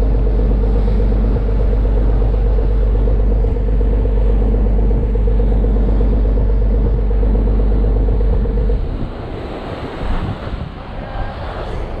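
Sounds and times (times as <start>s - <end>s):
boat engine droning: 0.0s - 12.0s
wind: 0.0s - 12.0s.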